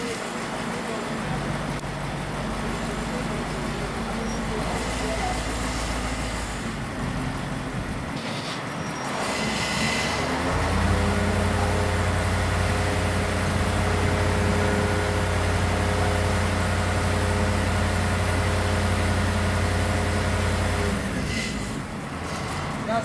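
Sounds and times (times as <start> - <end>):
heavy engine running: 0.0 - 23.0.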